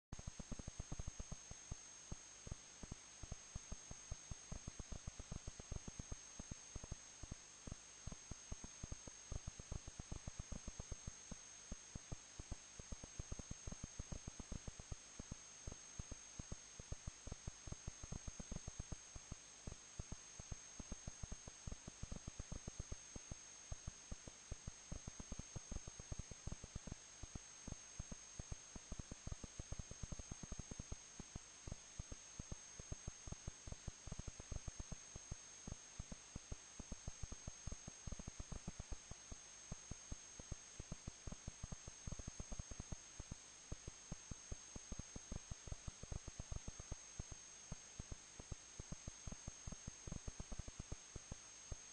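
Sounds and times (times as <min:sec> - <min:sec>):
electrical hiss: 0:00.2 - 0:51.9.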